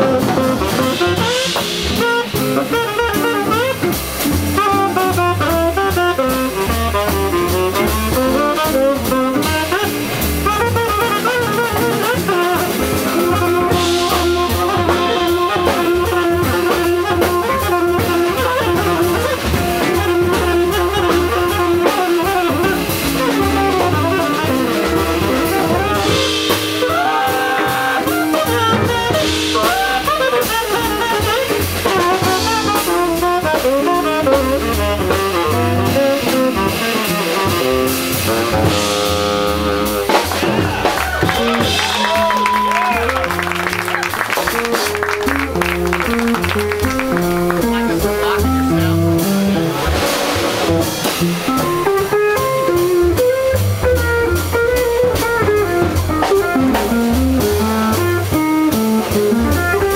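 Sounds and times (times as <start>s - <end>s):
tenor saxophone melody: 0.0s - 40.6s, 41.2s - 59.9s
drum kit: 0.0s - 59.9s
jazz band playing: 0.0s - 59.9s.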